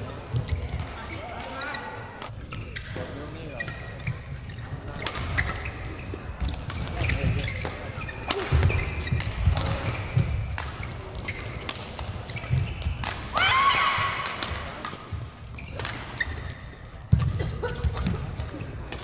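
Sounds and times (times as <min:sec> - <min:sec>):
shoe squeaking on court: 0:00.1 - 0:13.1, 0:15.5 - 0:19.0
rackets hitting shuttlecock: 0:02.2 - 0:13.4, 0:14.0 - 0:19.0.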